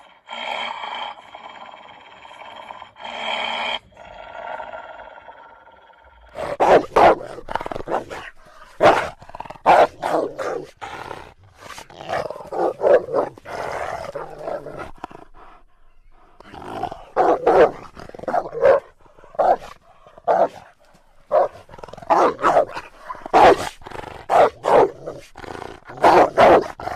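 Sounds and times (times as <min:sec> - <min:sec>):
dog barking and growling: 0:00.0 - 0:26.9.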